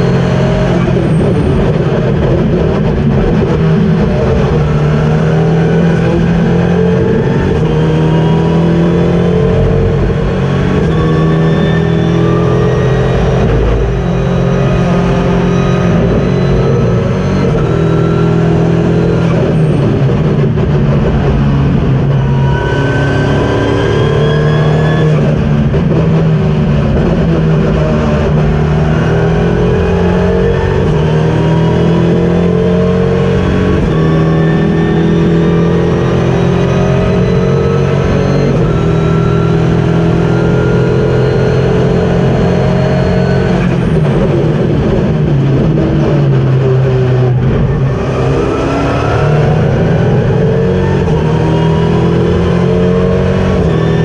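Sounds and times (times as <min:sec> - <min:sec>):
race car engine accelerating: 0:00.0 - 0:54.0
road and wind noise: 0:00.0 - 0:54.0.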